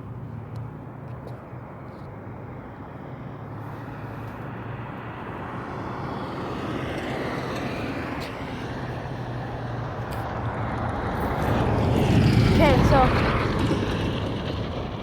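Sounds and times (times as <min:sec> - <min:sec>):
rushing road noise: 0:00.0 - 0:15.0
vehicle engine hum: 0:00.0 - 0:15.0.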